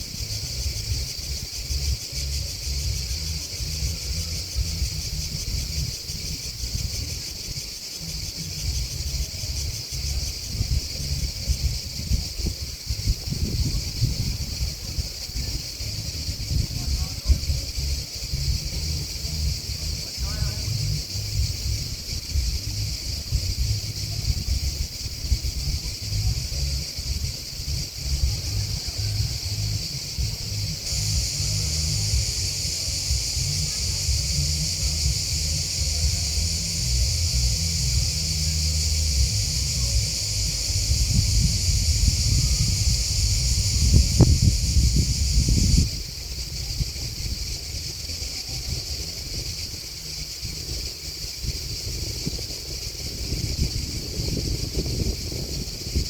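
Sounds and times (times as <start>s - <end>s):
grasshoppers and crickets chirping: 0.0s - 56.0s
wind rumble on microphone: 0.0s - 56.0s.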